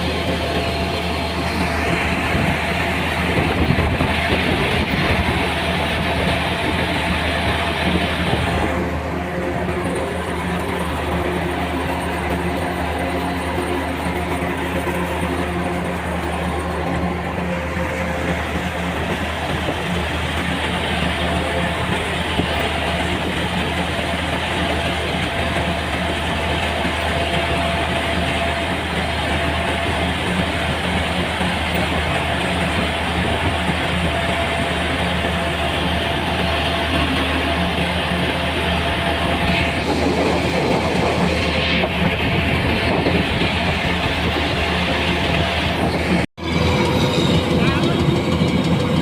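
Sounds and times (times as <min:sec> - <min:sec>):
harvesting machine engine hum: 0:00.0 - 0:49.0
rushing clattering noise: 0:00.0 - 0:49.0.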